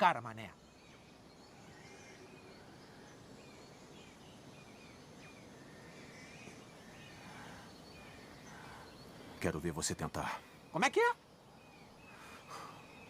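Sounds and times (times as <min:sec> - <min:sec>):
bird chirps: 0:00.0 - 0:13.0
low jungle background: 0:00.0 - 0:13.0.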